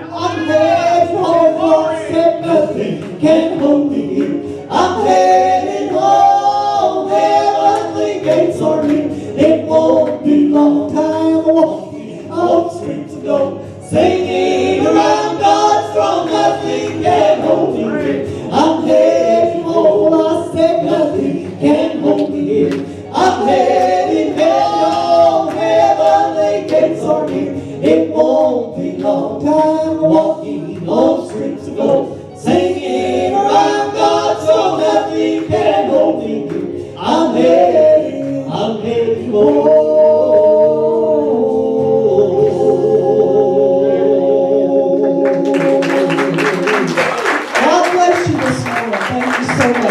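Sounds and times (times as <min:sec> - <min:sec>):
gospel group singing in harmony: 0:00.0 - 0:49.9.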